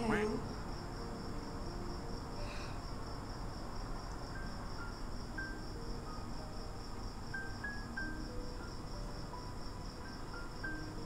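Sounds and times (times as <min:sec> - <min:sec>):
soft sparse background music: 0:00.0 - 0:11.0.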